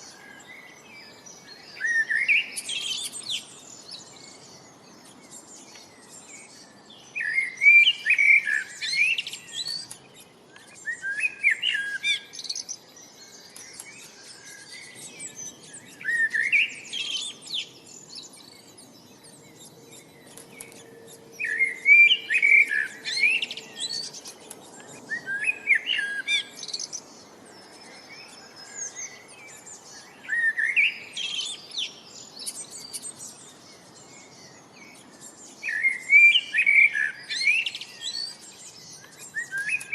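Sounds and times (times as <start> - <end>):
faint steady background noise: 0.0 - 39.9
songbird chirping: 0.0 - 39.9.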